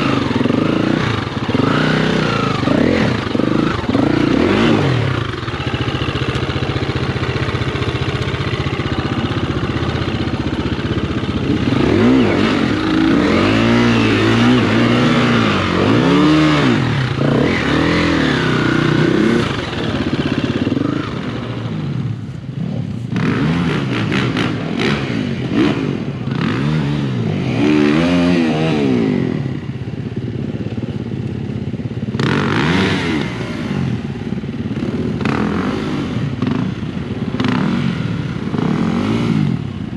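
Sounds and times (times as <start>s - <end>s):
motocross bike engine revving: 0.0s - 30.3s, 32.1s - 39.9s.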